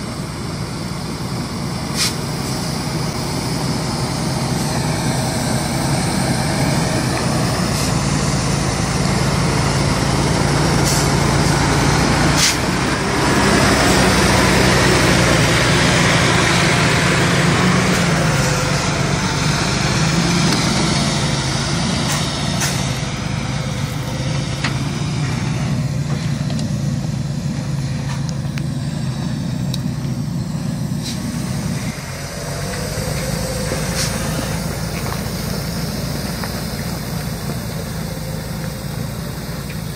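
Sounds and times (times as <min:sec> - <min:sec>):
truck diesel engine under load: 0:00.0 - 0:39.9.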